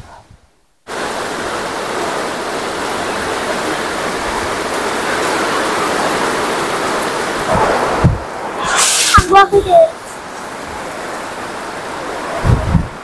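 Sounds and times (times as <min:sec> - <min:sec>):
strong wind: 0:00.0 - 0:13.0
heavy rain pouring: 0:00.9 - 0:13.0.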